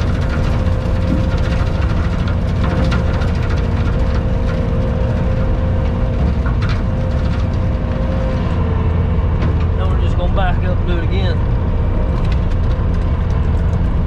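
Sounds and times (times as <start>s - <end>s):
engine low rumble: 0.0s - 14.0s.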